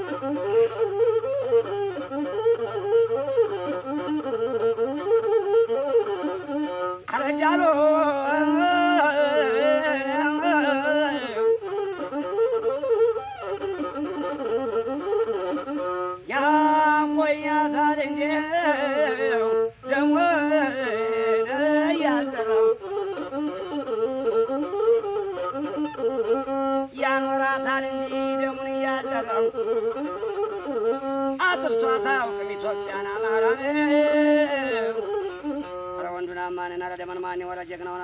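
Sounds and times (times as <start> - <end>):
one-string bowed fiddle melody: 0.0 - 38.0.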